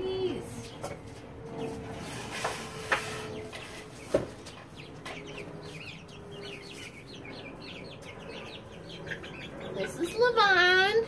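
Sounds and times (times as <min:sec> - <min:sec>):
chicks peeping: 0:00.1 - 0:11.0.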